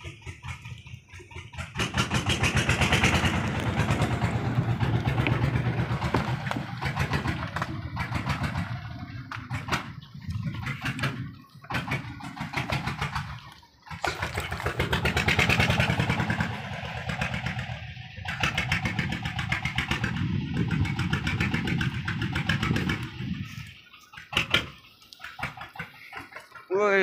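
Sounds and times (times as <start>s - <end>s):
boat engine chugging: 0.0s - 27.0s.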